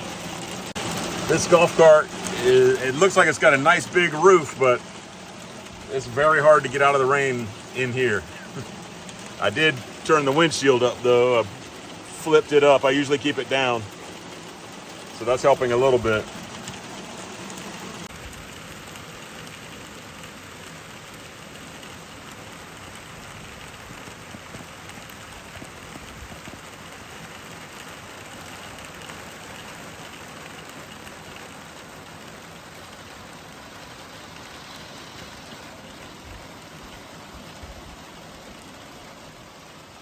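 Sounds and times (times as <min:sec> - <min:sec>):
rain on a roof: 0:00.0 - 0:40.0.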